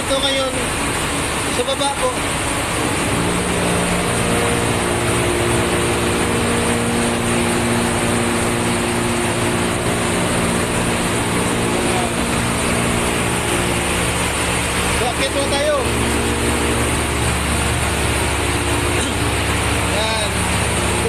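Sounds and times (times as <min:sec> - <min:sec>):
engine-room machinery droning: 0:00.0 - 0:21.0.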